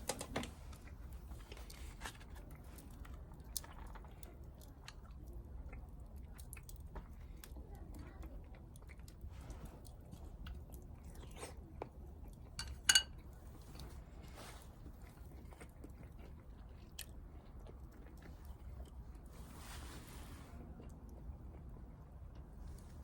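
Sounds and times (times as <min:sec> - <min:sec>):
chewing with crunches: 0:00.0 - 0:23.0.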